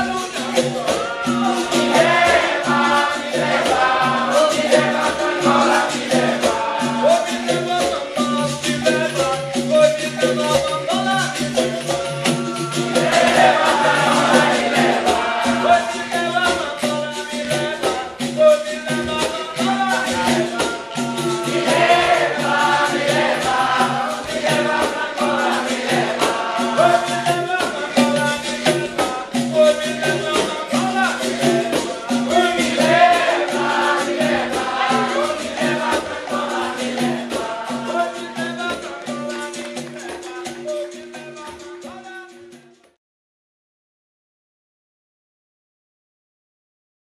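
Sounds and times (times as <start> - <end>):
group singing: 0.0 - 42.4
percussion rhythm: 0.0 - 43.0
shaken rattle: 0.0 - 43.0.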